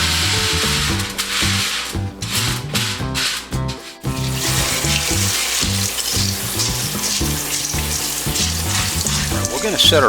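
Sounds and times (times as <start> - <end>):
background music with steady beat: 0.0 - 10.0
tap water running: 0.0 - 10.0.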